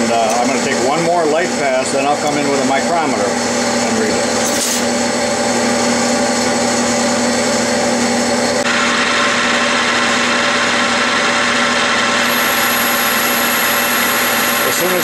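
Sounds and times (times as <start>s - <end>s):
metal lathe cutting: 0.4s - 15.0s.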